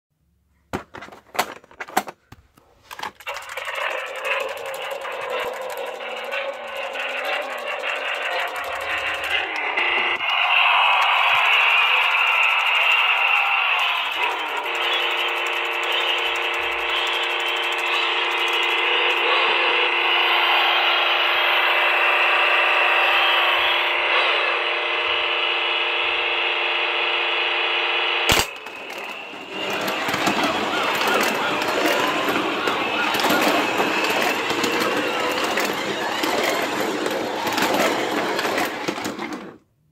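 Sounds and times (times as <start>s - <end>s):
toy car electronic engine sound: 2.9s - 25.2s, 28.3s - 39.6s.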